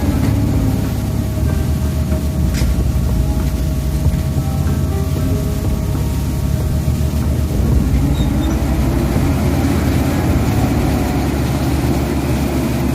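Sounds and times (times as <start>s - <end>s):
heavy machine engine drone: 0.0s - 12.9s.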